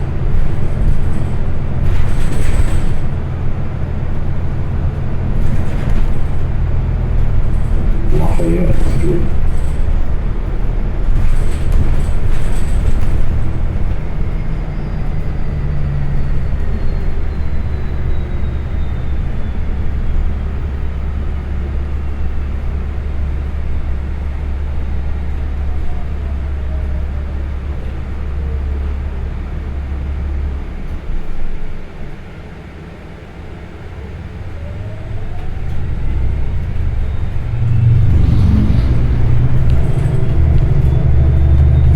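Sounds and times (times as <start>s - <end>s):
bus engine drone: 0.0s - 41.9s.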